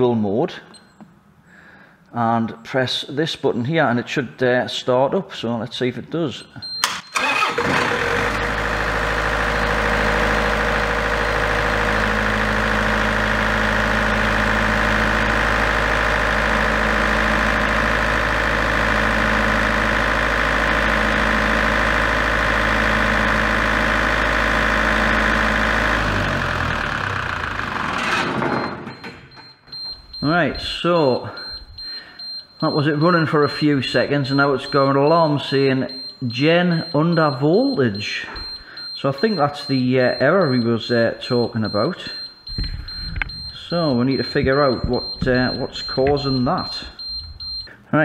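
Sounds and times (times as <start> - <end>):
diesel generator running: 6.8 - 36.2, 38.4 - 47.8.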